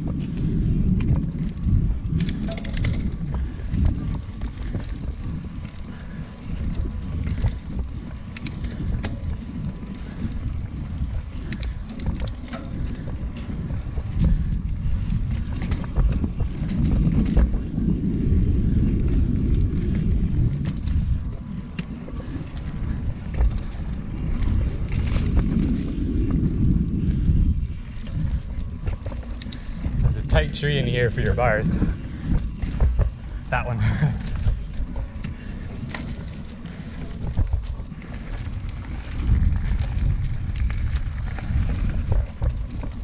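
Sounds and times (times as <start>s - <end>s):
bike clicks and rattles: 0.0s - 43.0s
bike tyres rolling on dirt: 0.0s - 43.0s
wind rumbling on microphone: 0.0s - 43.0s.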